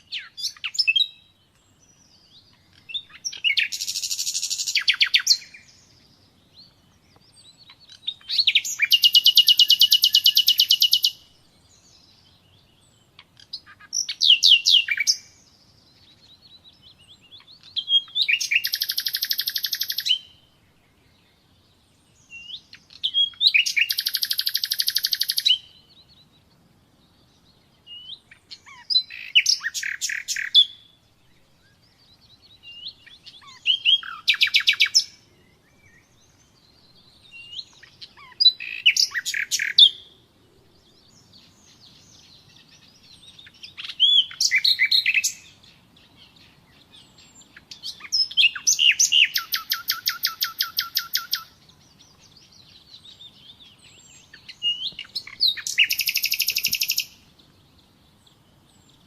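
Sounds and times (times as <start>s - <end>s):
nightingale singing: 0.0s - 59.0s.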